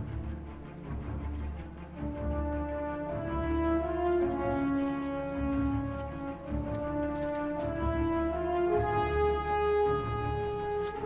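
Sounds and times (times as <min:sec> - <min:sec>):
bass-heavy background music: 0:00.0 - 0:11.0.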